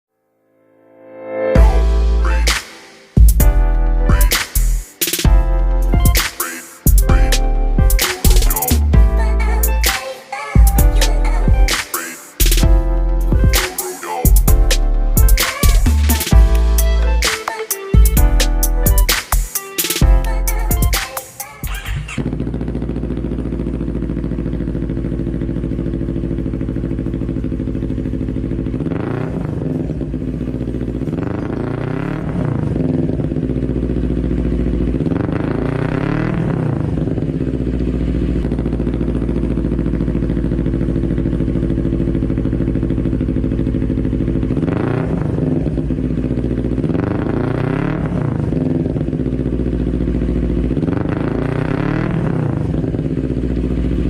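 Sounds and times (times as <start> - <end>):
motorcycle engine idling and revving: 1.6 - 54.0.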